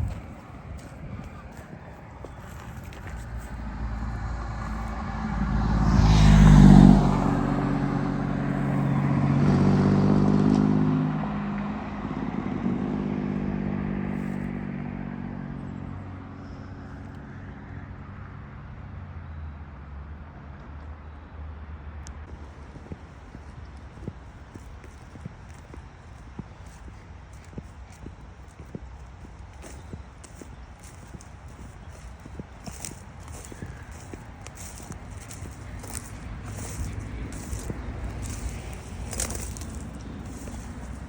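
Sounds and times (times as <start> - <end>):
motor vehicles passing by: 0.0 - 41.0.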